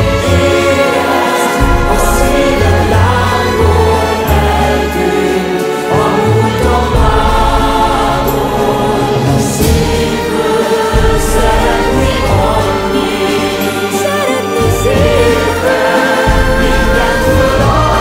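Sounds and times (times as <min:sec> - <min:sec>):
choir singing sustained chords: 0:00.0 - 0:18.0
instrumental backing with bass line: 0:00.0 - 0:18.0.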